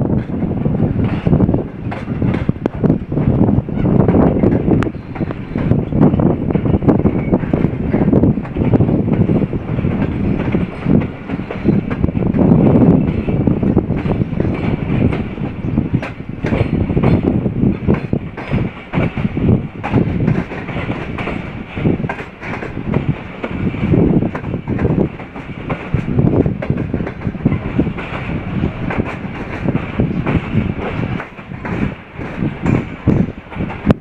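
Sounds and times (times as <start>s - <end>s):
train wheels rumbling on rails: 0.0s - 34.0s
wheels clacking: 0.0s - 34.0s.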